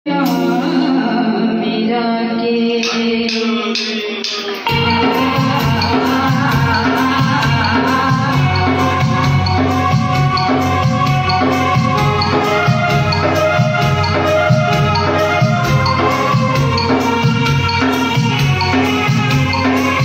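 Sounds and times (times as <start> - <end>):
electronic drum pad beat: 2.8 - 20.0
electronic keyboard organ chords: 3.4 - 20.0.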